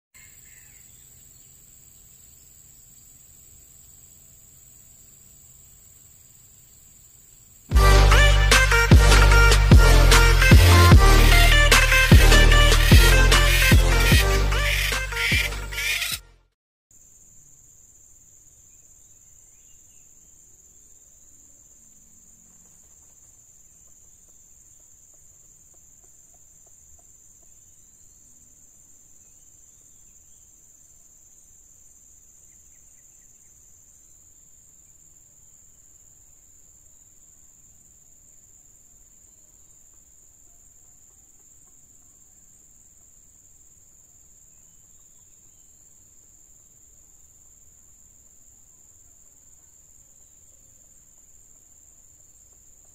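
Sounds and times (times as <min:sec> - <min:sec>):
insect chorus drone: 0:00.2 - 0:16.2, 0:16.9 - 0:52.9.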